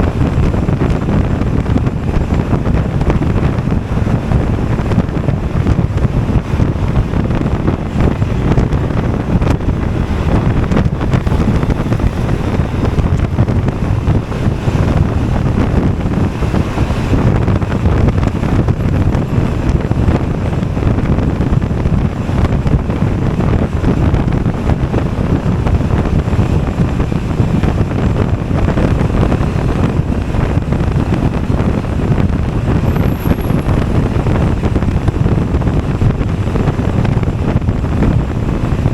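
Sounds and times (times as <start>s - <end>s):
road and engine noise: 0.0s - 38.9s
wind rushing over microphone: 0.0s - 38.9s.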